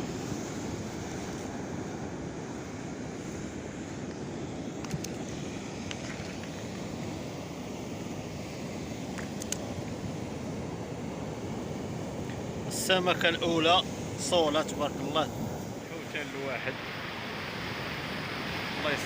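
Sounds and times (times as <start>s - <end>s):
sea surf on shore: 0.0s - 19.0s.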